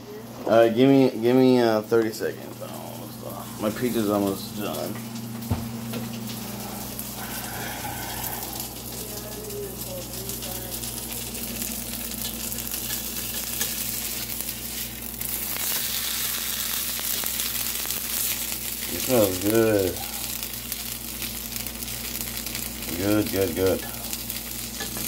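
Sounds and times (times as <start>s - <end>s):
pizza sizzling in a pan: 0.0s - 25.0s.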